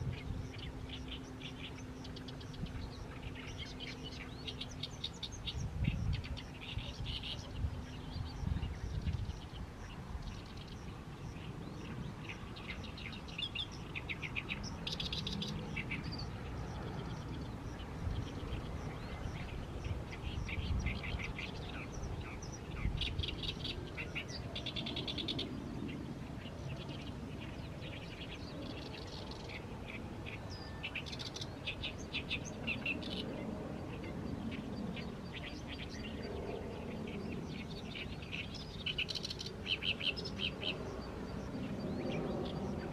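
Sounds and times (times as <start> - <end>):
reed warbler chattering song: 0.0 - 42.9.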